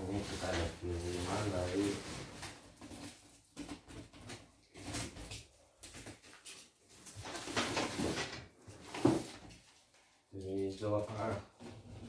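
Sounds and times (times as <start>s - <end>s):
plastic wrap rustling: 0.0s - 12.0s.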